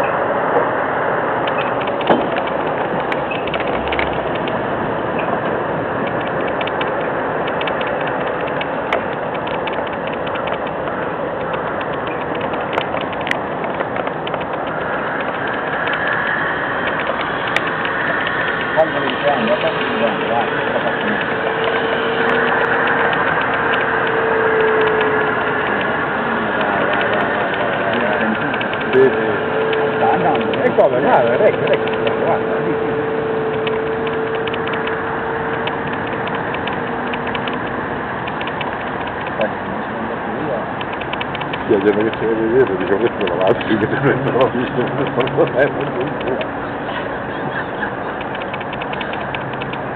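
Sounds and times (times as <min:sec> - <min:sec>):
faint steady whine: 0:00.0 - 0:49.9
vehicle running: 0:00.0 - 0:49.9
rattle of metallic clicks: 0:01.4 - 0:04.6, 0:05.2 - 0:26.0, 0:26.6 - 0:32.2, 0:33.5 - 0:39.5, 0:40.8 - 0:49.9.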